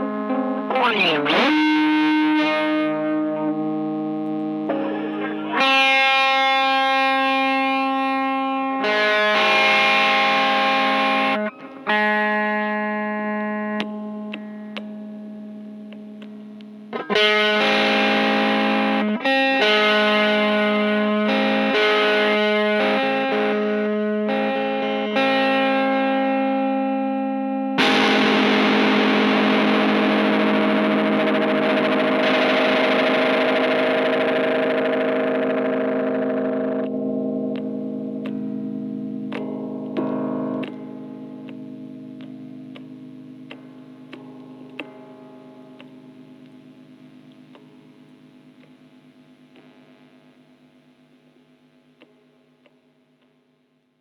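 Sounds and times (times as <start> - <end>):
distorted electric guitar chords: 0.0 - 54.0.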